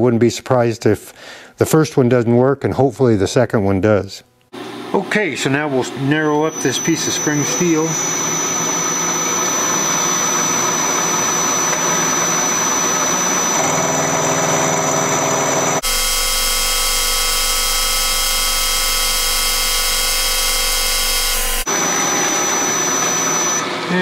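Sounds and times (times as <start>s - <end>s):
milling machine whine: 4.6s - 24.0s.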